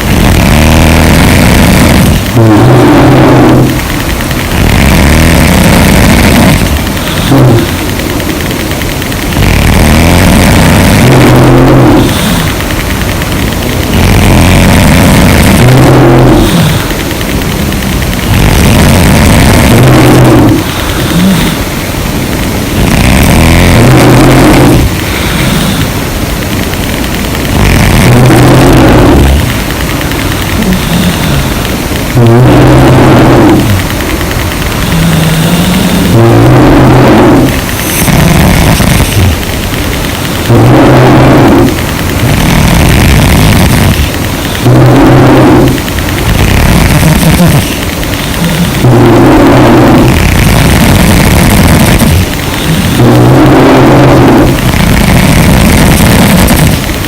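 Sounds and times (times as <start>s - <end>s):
loud low snoring: 0.0s - 57.0s
quiet breathing: 0.0s - 57.0s.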